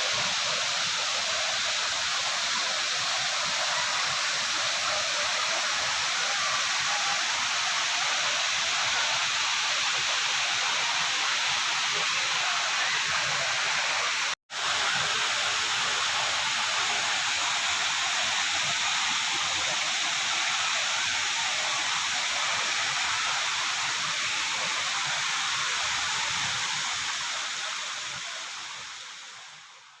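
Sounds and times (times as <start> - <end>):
waterfall rushing: 0.0 - 28.8.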